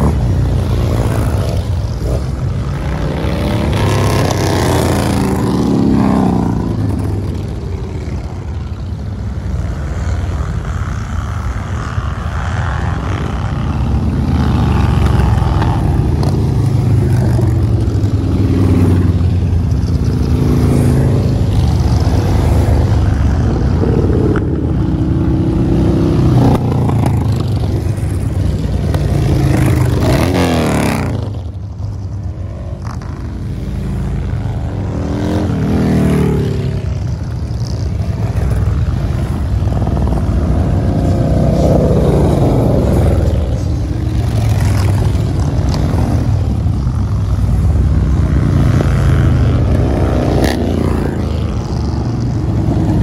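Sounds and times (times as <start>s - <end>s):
motorcycles riding past: 0.0s - 53.0s.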